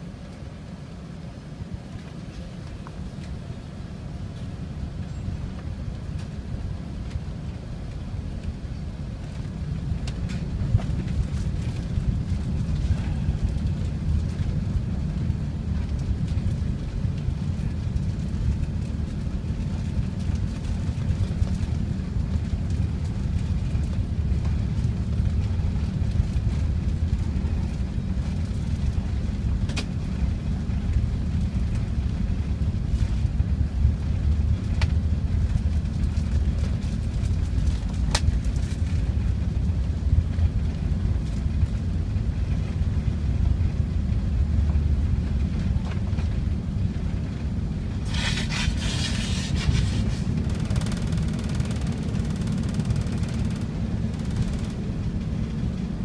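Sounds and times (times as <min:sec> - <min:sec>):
aircraft engines and wheels rumbling: 0:00.0 - 0:56.0.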